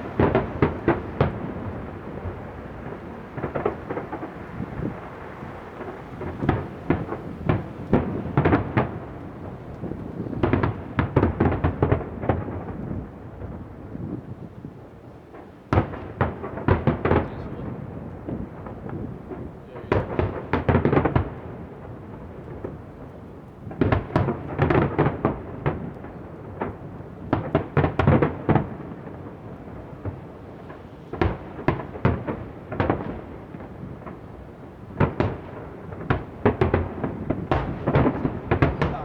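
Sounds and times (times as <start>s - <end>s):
fireworks bursting: 0.0s - 14.2s, 15.3s - 39.0s.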